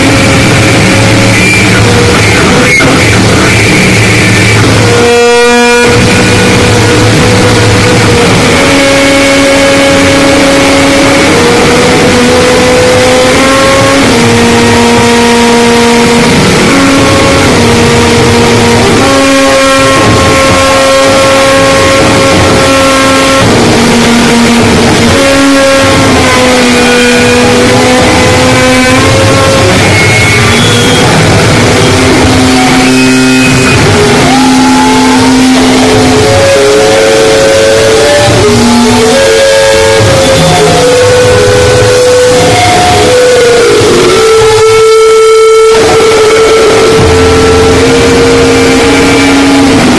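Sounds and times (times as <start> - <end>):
distorted harsh noise music: 0.0 - 49.9
droning tones: 0.0 - 49.9.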